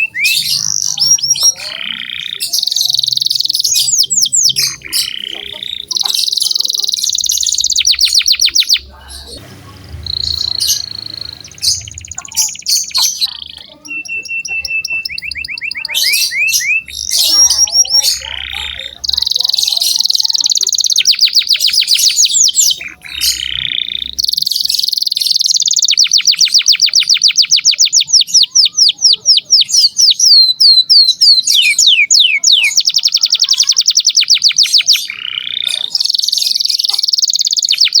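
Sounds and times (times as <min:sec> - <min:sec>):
canary singing trills: 0:00.0 - 0:38.0.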